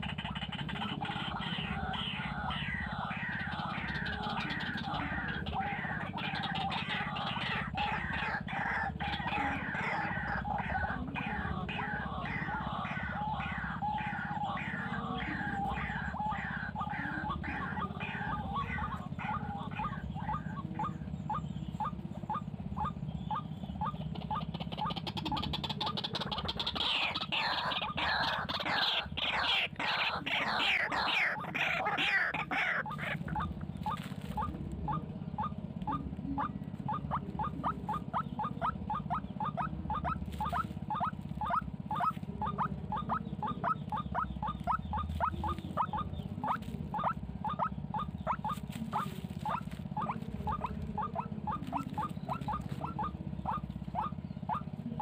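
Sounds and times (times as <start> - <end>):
rapid overlapping chattering calls: 0.0 - 55.0
waterhens calling: 0.0 - 55.0.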